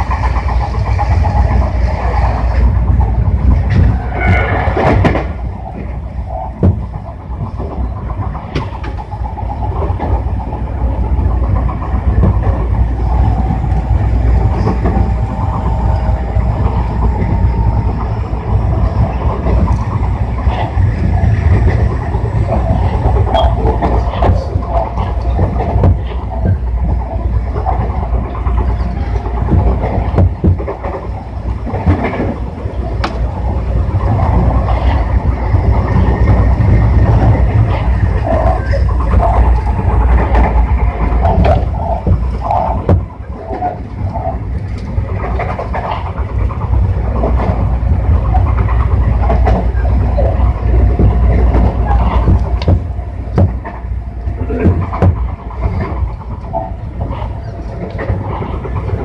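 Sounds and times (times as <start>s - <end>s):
electric train rumbling: 0.0s - 59.0s
wheels clacking on track: 0.0s - 59.0s.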